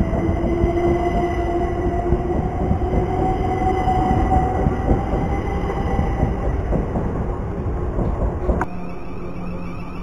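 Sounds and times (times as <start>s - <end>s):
wheels clicking over rail joints: 0.0s - 8.7s
train rumbling past: 0.0s - 10.0s.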